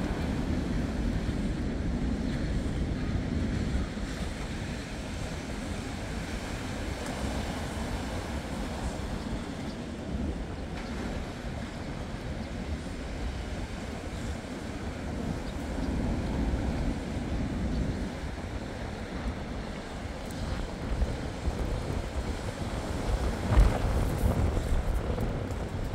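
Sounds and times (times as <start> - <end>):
heavy surf breaking on a beach: 0.0 - 25.9
wind rumbling on the microphone: 0.0 - 25.9.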